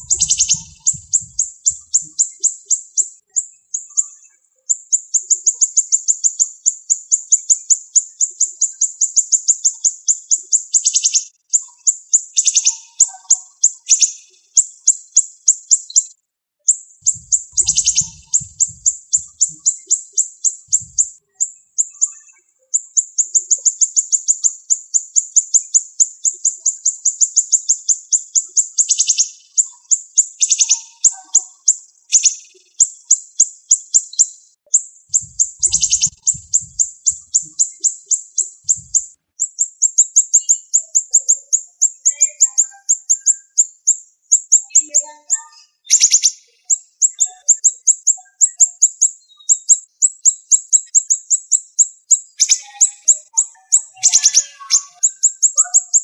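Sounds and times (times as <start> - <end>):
bird song high chirps: 0.0 - 56.0.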